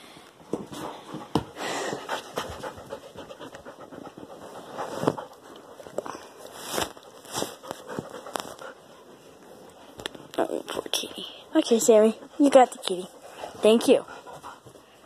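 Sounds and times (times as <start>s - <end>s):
dog panting: 0.7s - 6.5s, 7.1s - 10.3s, 11.1s - 15.0s.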